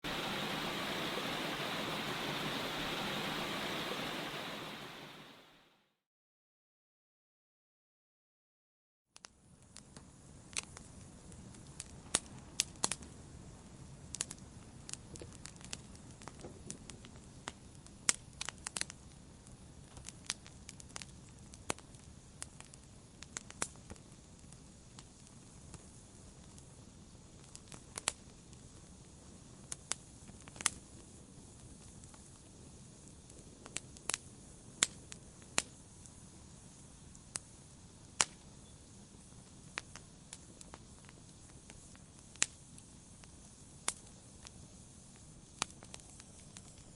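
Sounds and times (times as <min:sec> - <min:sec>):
flames rumbling: 0:00.0 - 0:05.5, 0:09.6 - 0:46.9
burning wood crackling and popping: 0:09.2 - 0:46.9.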